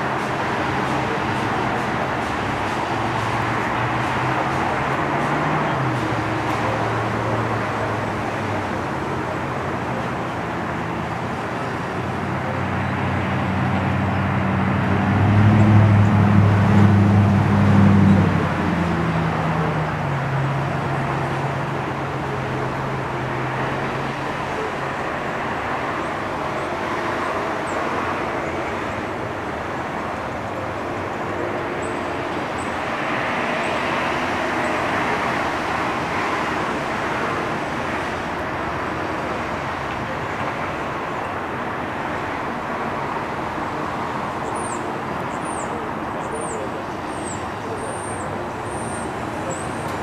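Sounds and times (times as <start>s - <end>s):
background traffic noise: 0.0s - 50.0s
passing vehicle hum: 0.0s - 50.0s.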